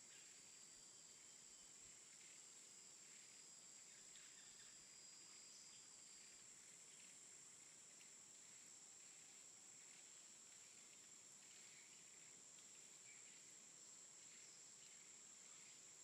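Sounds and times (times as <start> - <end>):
soft insect chirps: 0.0 - 16.0.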